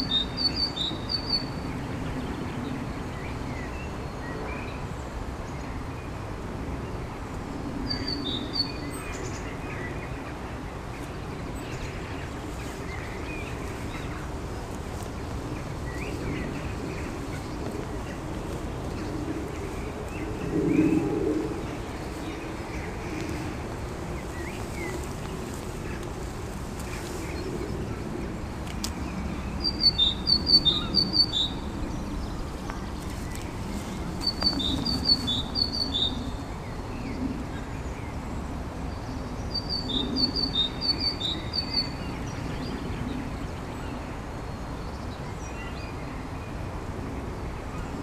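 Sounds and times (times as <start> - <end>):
low background noise: 0.0 - 48.0.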